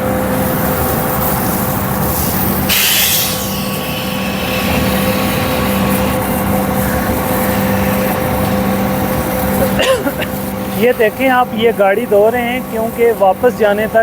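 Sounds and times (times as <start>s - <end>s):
sharp hiss: 0.0s - 13.1s
diesel truck engines running: 0.0s - 14.0s.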